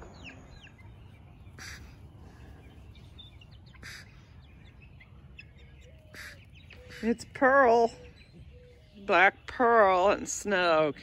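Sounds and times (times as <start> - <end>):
chicks peeping: 0.1 - 9.6.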